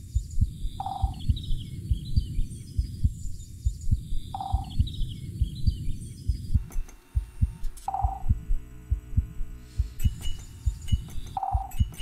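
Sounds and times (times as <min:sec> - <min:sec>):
heartbeat-like low thumps: 0:00.0 - 0:12.0.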